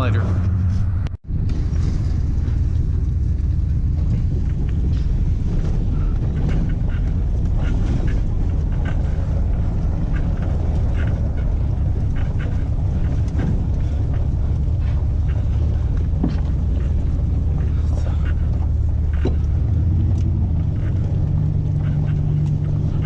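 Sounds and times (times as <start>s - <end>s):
truck engine and road rumble: 0.0s - 23.0s
light rattles: 1.4s - 23.0s.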